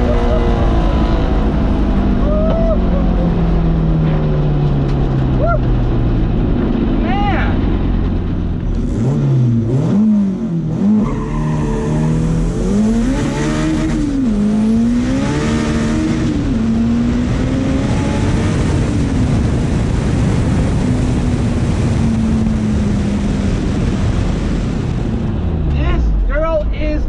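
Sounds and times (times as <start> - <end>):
car engine accelerating: 0.0 - 26.6.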